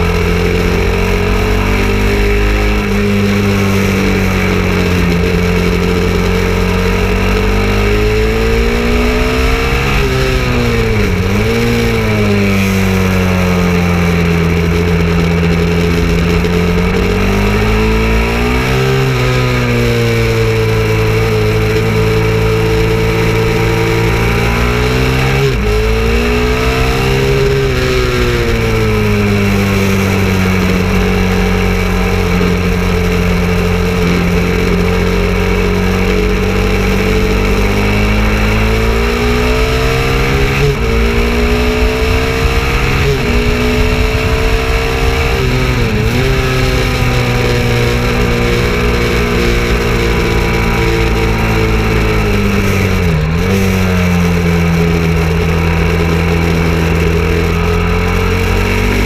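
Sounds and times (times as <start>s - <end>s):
motorcycle engine at speed: 0.0s - 59.0s
wind rush: 0.9s - 19.8s, 24.1s - 55.8s.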